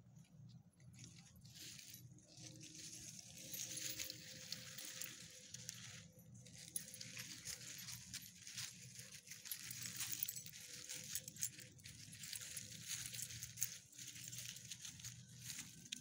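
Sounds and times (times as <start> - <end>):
dry leaves crunching under paws: 1.0 - 16.0.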